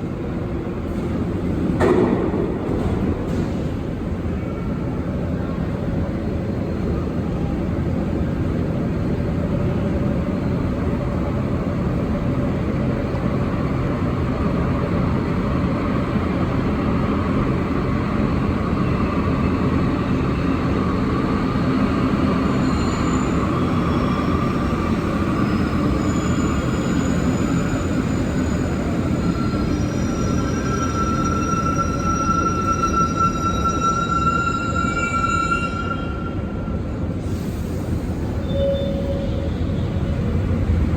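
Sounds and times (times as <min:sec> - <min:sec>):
metro train rumble: 0:00.0 - 0:40.9.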